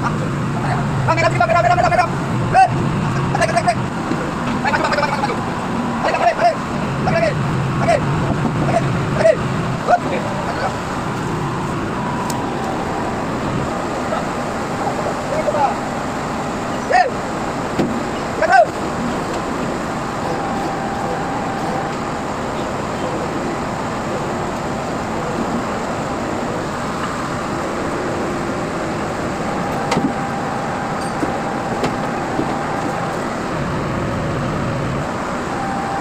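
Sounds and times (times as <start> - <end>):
faint steady whine: 0.0 - 36.0
heavy machinery engine drone: 0.0 - 36.0.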